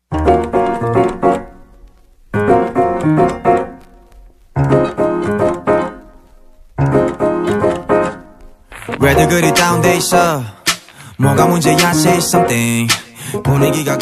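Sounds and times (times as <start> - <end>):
piano chord phrases: 0.1 - 14.0.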